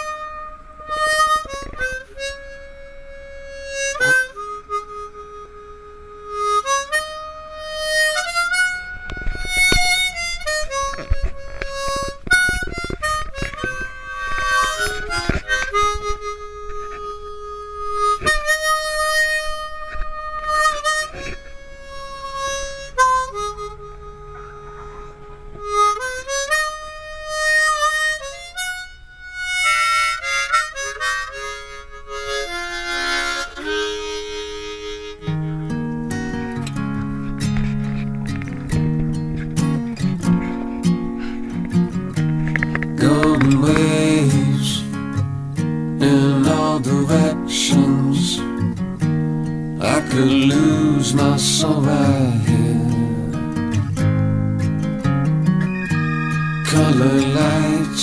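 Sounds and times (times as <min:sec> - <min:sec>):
harmonica playing: 0:00.0 - 0:58.0.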